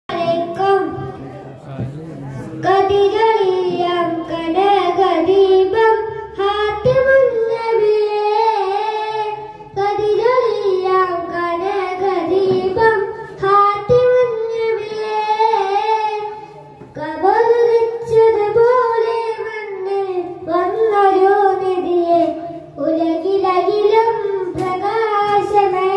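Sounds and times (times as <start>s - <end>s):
boy singing devotional song: 0.1s - 25.9s.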